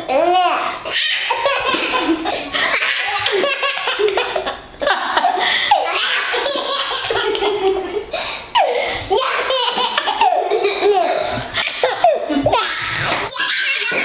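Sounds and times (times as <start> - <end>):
baby laughing: 0.8 - 4.6, 5.2 - 14.0
child laughing: 0.8 - 14.0.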